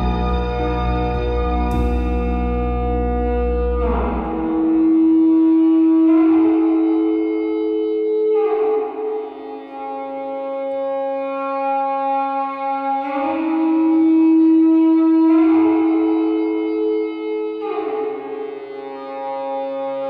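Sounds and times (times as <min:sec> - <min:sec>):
sustained chords music: 0:00.0 - 0:20.0.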